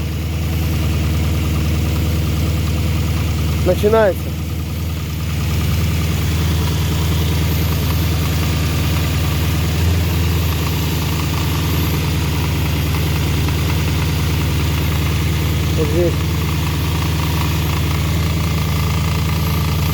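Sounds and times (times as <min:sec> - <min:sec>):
car engine idling: 0:00.0 - 0:19.9
knocking rattle under hood: 0:00.0 - 0:19.9.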